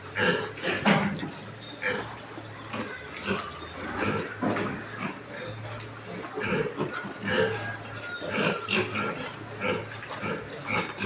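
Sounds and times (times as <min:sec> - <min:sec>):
piglets grunting and squealing: 0:00.1 - 0:11.0.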